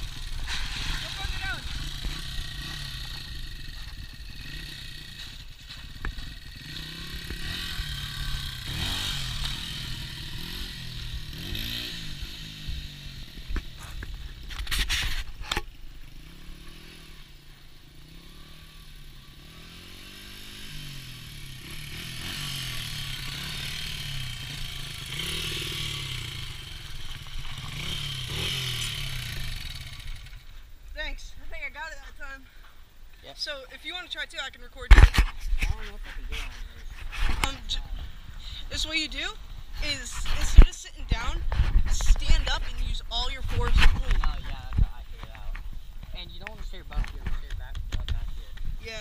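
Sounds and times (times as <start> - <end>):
dirt bike engine revving: 0.0 - 32.4, 33.4 - 44.8.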